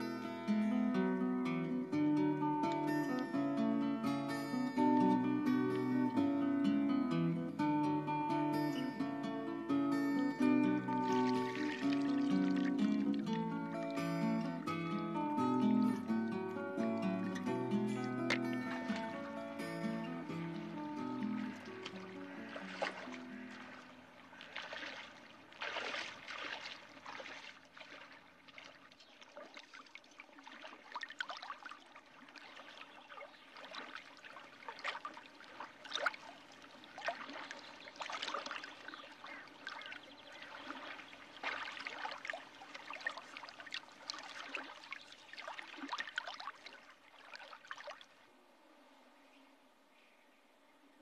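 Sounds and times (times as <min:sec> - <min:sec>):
shallow water splashing: 0:00.0 - 0:48.3.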